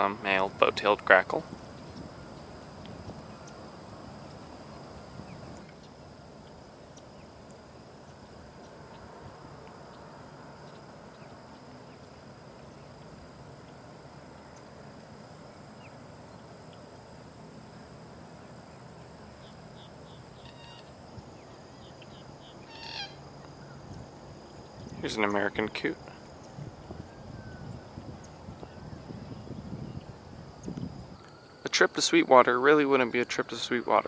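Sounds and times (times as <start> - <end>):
low background hiss: 0.0 - 34.0.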